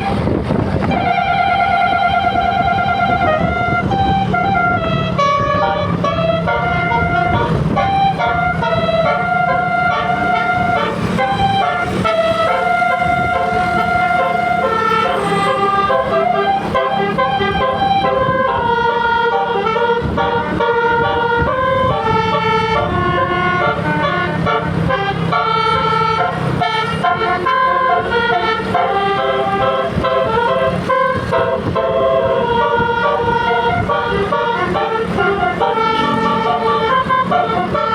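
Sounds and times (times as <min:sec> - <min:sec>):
musical air horns playing melody: 0:00.0 - 0:37.9.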